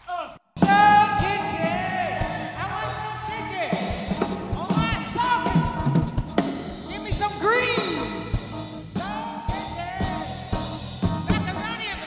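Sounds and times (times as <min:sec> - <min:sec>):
band music with singing: 0:00.6 - 0:12.0
drum kit: 0:00.6 - 0:12.0.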